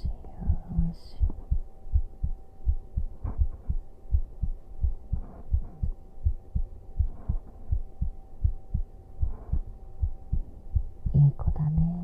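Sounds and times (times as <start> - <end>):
heartbeat thumps: 0.0 - 12.0
thin steady hum: 0.0 - 12.0.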